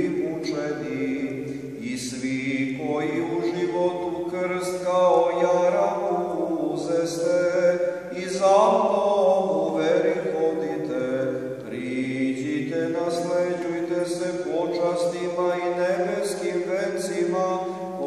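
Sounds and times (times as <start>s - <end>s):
person chanting prayer: 0.0s - 18.0s.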